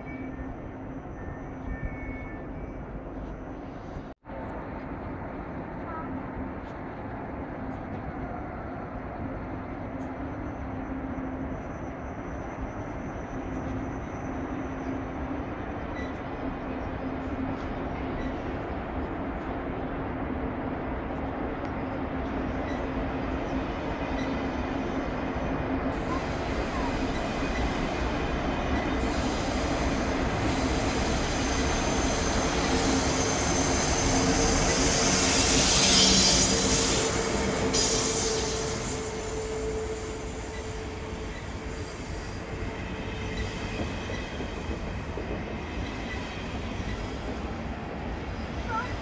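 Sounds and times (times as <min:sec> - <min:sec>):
train wheels rumbling: 0:00.0 - 0:49.0.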